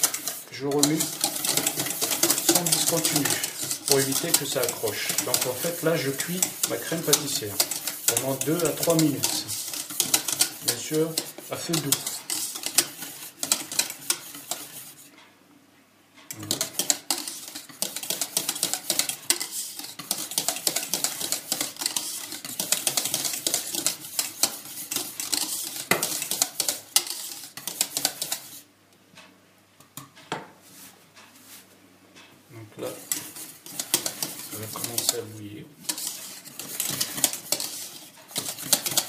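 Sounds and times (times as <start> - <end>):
whisk rattling in a steel saucepan: 0.0 - 15.1, 16.3 - 28.6, 32.8 - 39.0.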